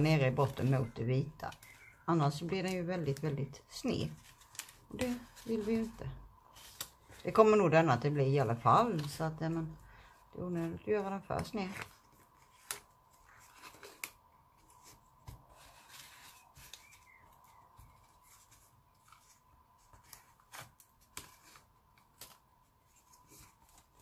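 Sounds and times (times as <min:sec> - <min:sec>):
paper rustling and clicking: 0:00.0 - 0:09.7, 0:11.2 - 0:24.0.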